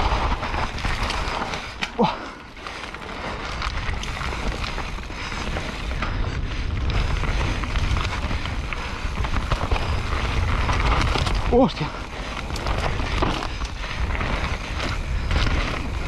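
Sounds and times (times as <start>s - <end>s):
bike clattering: 0.0s - 16.0s
tyres on dirt: 0.0s - 16.0s
wind buffeting microphone: 3.0s - 16.0s.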